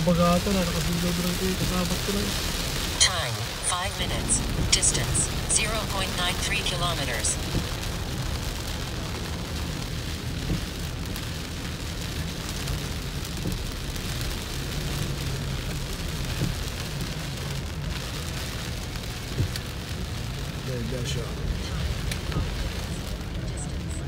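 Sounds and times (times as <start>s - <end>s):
engine and road rumble: 0.0s - 24.0s
heavy rain on car windshield: 0.0s - 24.0s.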